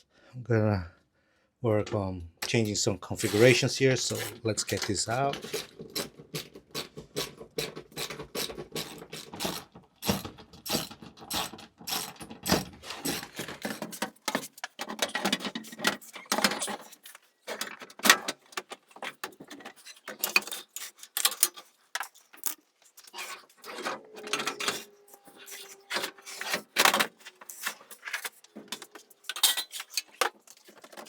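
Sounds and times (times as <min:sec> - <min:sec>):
tools and metal parts clanking: 0:02.4 - 0:31.0.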